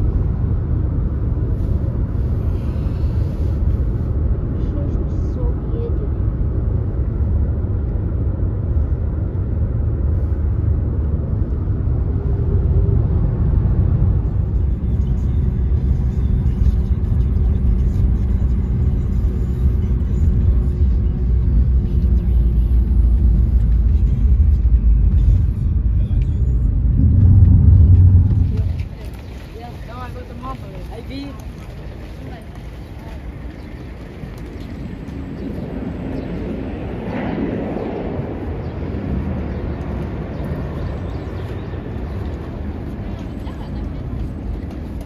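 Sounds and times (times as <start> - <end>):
car cabin road and engine rumble: 0.0 - 45.0.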